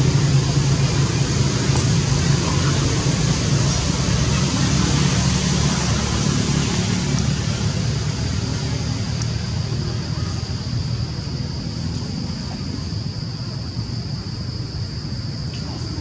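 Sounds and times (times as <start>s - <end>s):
constant high hiss: 0.0s - 16.0s.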